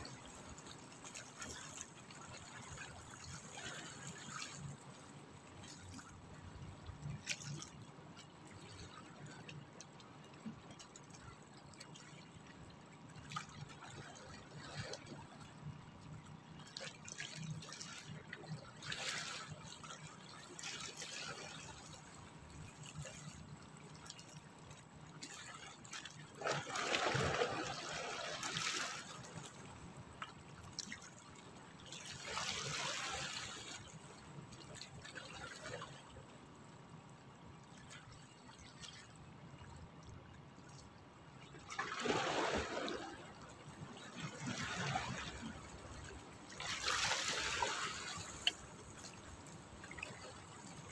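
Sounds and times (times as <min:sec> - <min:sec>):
waves lapping against rocks: 0:00.0 - 0:36.7, 0:37.5 - 0:50.9.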